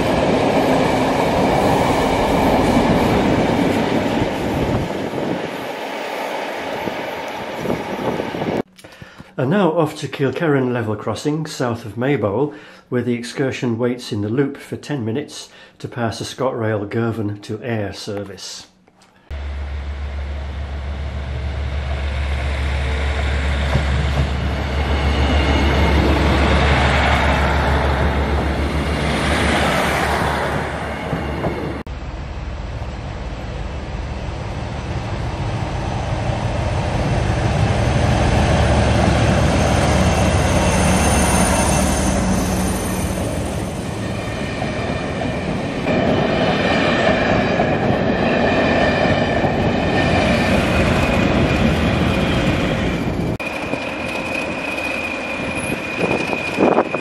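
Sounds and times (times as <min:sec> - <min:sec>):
diesel train engine drone: 0:00.0 - 0:08.7, 0:19.2 - 0:57.0
rail and wheel noise: 0:00.0 - 0:08.7, 0:18.9 - 0:57.0.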